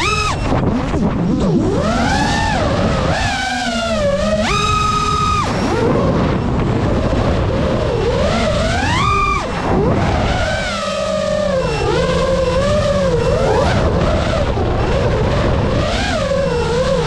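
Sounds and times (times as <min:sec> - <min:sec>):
drone motors whining: 0:00.0 - 0:17.0
wind rush: 0:00.0 - 0:17.0.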